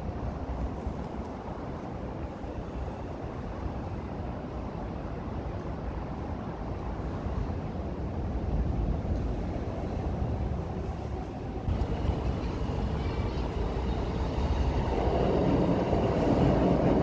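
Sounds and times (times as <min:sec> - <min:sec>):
electric train rumbling past: 0:00.0 - 0:17.0.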